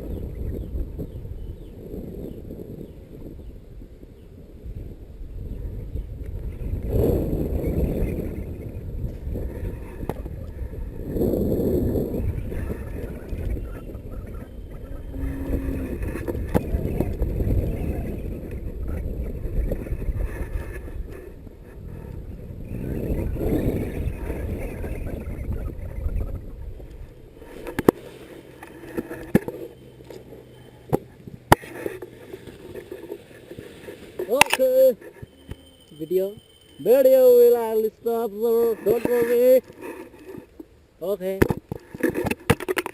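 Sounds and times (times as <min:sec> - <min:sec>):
wind buffeting microphone: 0:00.0 - 0:40.6.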